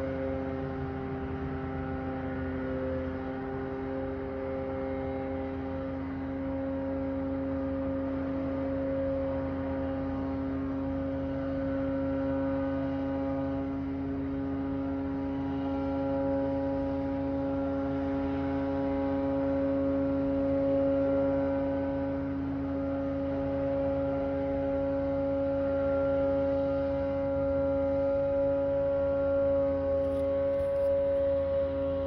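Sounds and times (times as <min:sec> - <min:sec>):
constant droning hum: 0:00.0 - 0:32.0.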